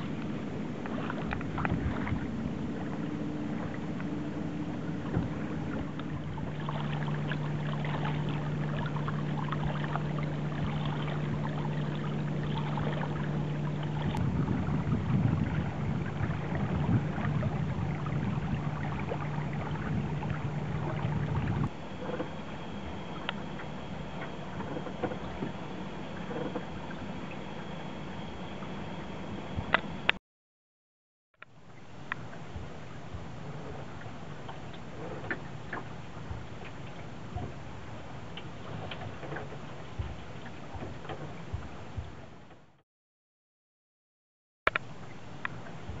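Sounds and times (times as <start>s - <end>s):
steady low hum: 0.0s - 30.2s, 31.4s - 42.8s
water splashing along hull: 0.0s - 30.2s, 31.5s - 42.8s, 44.7s - 46.0s
wind: 0.0s - 30.2s, 31.4s - 42.8s, 44.7s - 46.0s.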